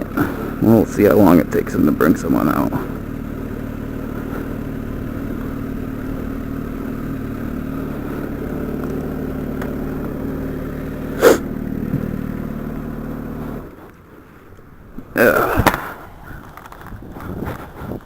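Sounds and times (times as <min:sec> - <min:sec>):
motorcycle engine idling: 0:00.0 - 0:17.3.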